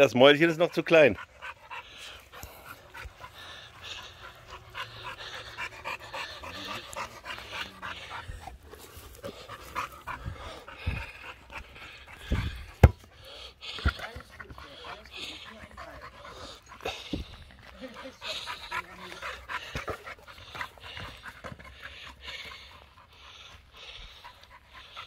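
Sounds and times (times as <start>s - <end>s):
puppy panting: 0.0s - 25.0s.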